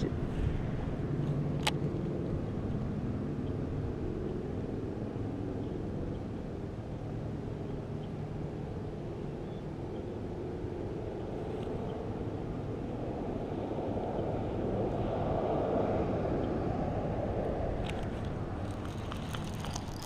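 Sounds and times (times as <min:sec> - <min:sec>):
distant engine rumble: 0:00.0 - 0:20.0.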